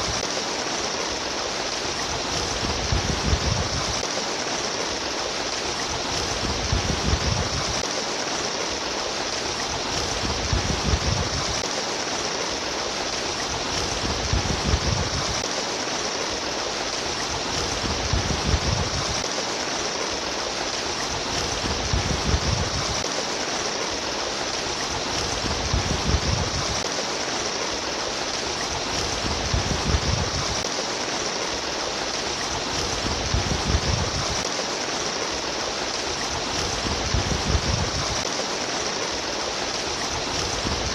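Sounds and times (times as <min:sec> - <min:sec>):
babbling stream water: 0:00.0 - 0:40.9.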